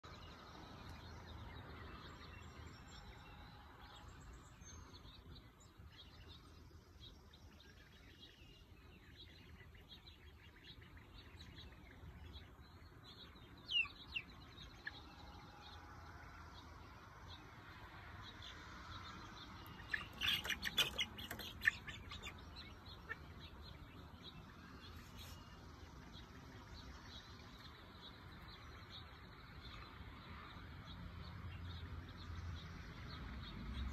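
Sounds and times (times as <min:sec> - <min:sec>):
chicks and ducklings peeping: 0:00.1 - 0:33.9.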